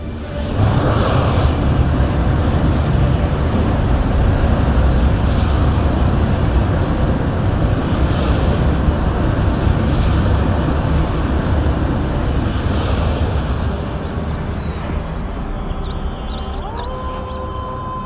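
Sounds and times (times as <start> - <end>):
gas flare rumbling: 0.0 - 18.0.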